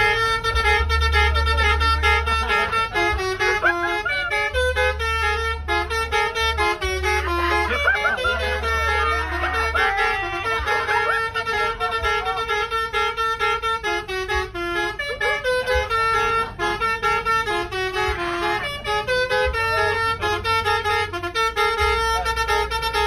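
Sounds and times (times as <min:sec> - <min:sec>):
multi-tone air horn melody: 0:00.0 - 0:23.0.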